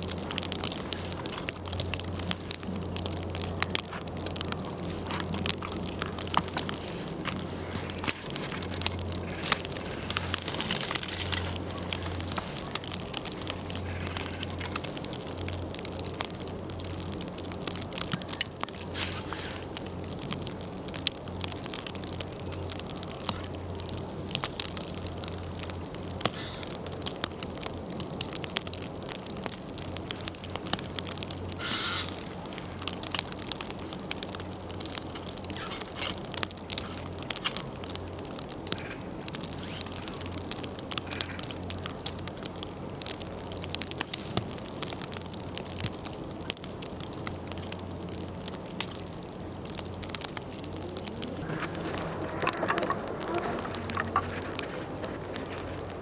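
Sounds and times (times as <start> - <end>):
sharp ticks and crackles: 0.0 - 56.0.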